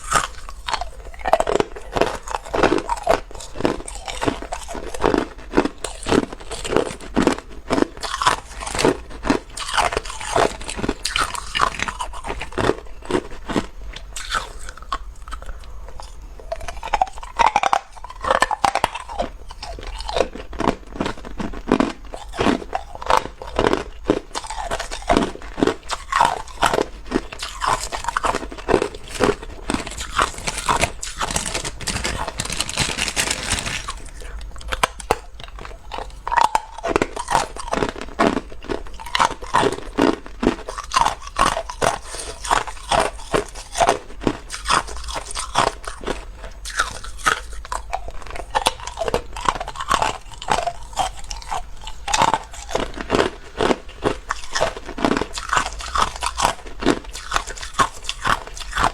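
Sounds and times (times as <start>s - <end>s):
person crunching ice cubes: 0.0s - 58.9s.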